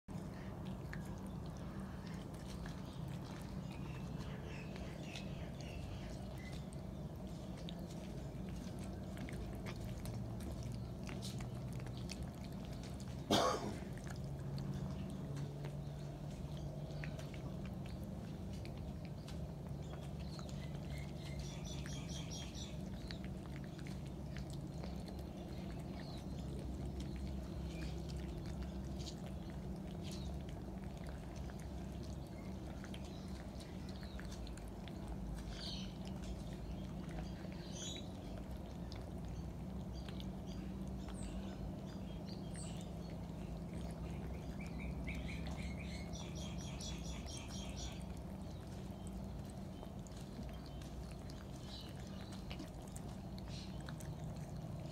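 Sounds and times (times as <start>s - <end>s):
birds twittering: 0.1s - 54.9s
cats chewing food from metal bowl: 0.1s - 54.9s
steady low hum: 0.1s - 54.9s.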